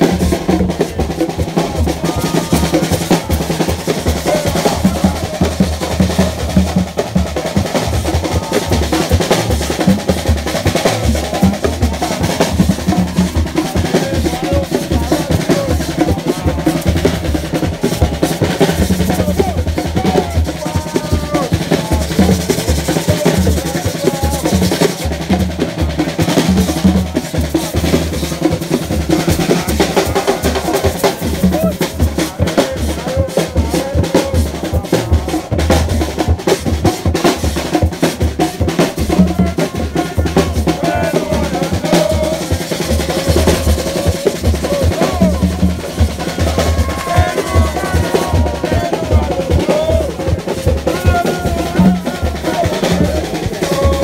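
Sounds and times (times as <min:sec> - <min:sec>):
deep drum beat: 0:00.0 - 0:54.0
small drums and snare playing: 0:00.0 - 0:54.0.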